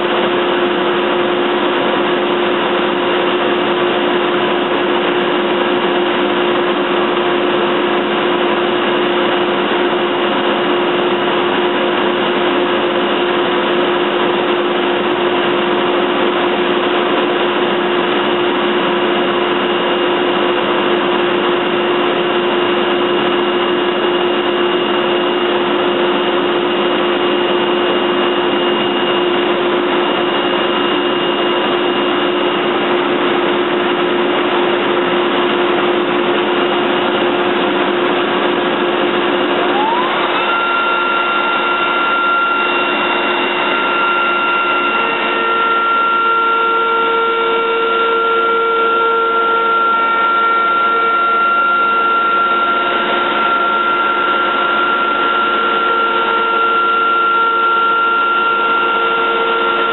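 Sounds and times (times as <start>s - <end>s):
router spindle and dust extractor drone: 0.0s - 59.9s.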